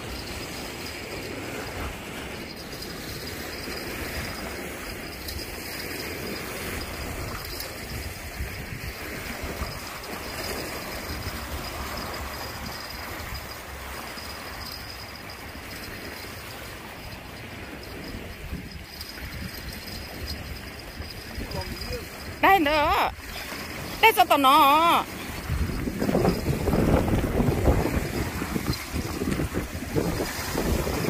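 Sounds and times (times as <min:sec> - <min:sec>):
wind buffeting microphone: 0:00.0 - 0:24.1, 0:24.8 - 0:31.0
small waves washing on shore: 0:00.0 - 0:31.0.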